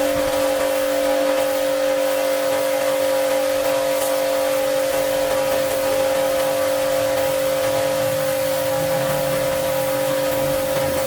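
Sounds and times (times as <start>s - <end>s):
cleaning machine motor whining: 0.0s - 11.0s.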